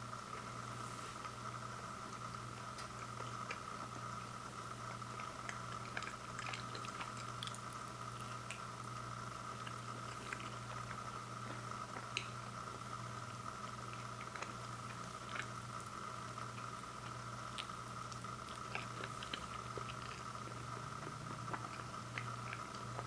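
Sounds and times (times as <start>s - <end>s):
steady background hum: 0.0s - 23.0s
person chewing food: 2.1s - 13.0s, 13.6s - 23.0s.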